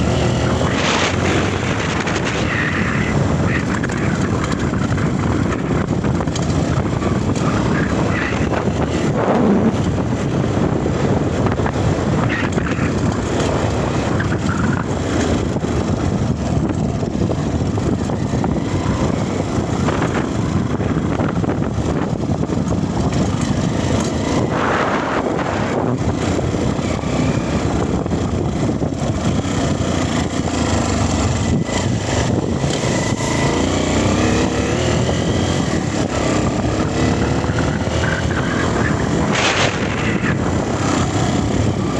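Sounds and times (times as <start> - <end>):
dirt bike engine revving: 0.0 - 16.0, 23.0 - 28.0, 28.6 - 41.9
rushing wind noise: 0.0 - 41.9.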